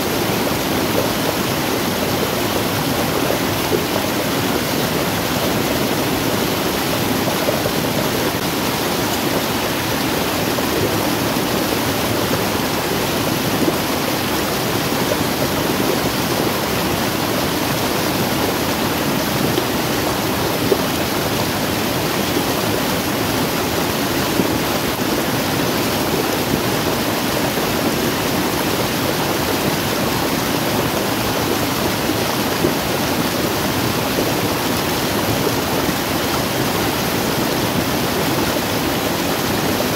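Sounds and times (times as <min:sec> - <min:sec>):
floodwater rushing down waterfall: 0:00.0 - 0:39.9.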